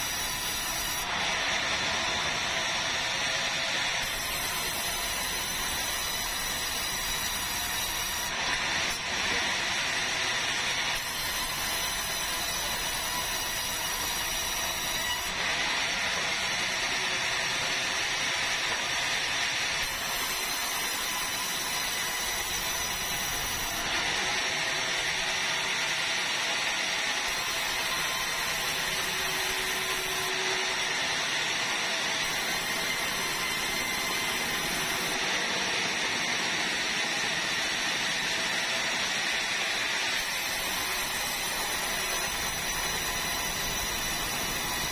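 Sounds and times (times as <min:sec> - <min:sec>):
band saw sawing timber: 0:00.0 - 0:18.0, 0:19.2 - 0:25.5, 0:27.3 - 0:35.9, 0:40.1 - 0:44.9.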